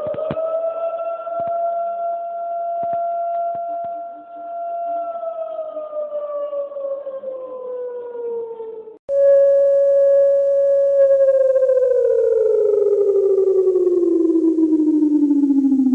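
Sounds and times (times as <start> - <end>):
civil defense siren: 0.0 - 15.9.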